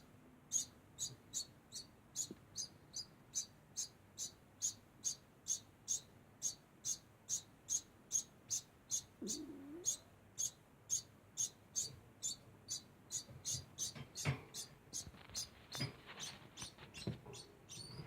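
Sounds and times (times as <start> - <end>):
degu squeaking: 0.5 - 18.0.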